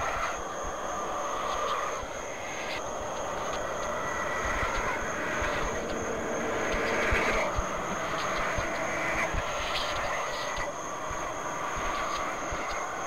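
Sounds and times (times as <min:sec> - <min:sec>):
dark droning ambience: 0:00.0 - 0:13.0.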